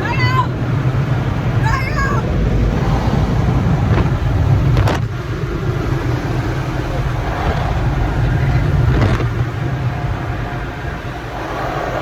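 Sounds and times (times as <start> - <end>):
car wash air dryers blowing: 0.0 - 12.0.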